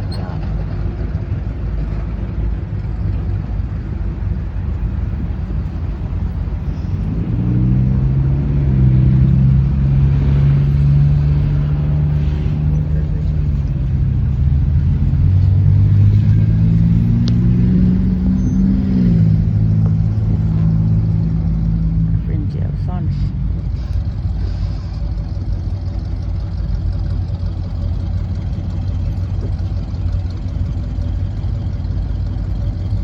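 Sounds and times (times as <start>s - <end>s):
car engine hum: 0.0s - 33.0s
road rumble: 0.0s - 33.0s.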